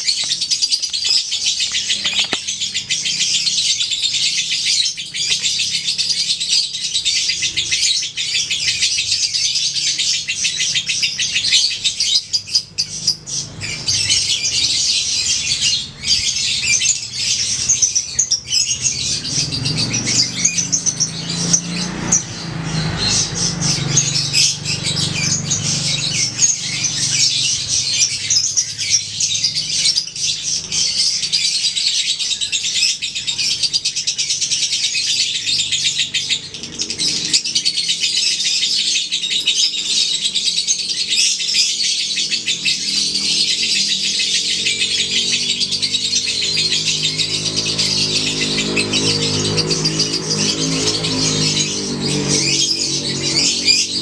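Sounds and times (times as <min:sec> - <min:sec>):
lovebird chattering trill: 0:00.0 - 0:54.0.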